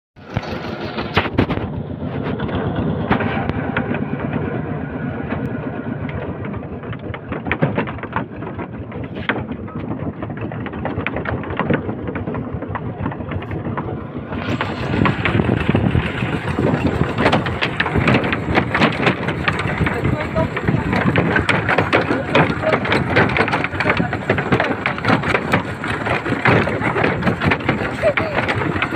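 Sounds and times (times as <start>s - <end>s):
small tractor engine running: 0.2s - 28.9s.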